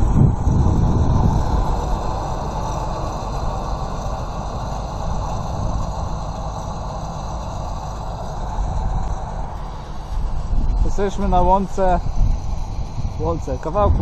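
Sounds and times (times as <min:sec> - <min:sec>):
wind on microphone: 0:00.0 - 0:06.9, 0:07.8 - 0:14.0
distant tractor running: 0:00.0 - 0:14.0.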